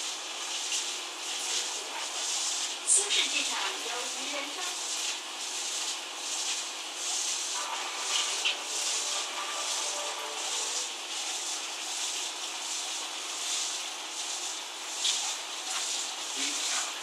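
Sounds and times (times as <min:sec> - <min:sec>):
hiss of water and bubbles: 0:00.0 - 0:17.0.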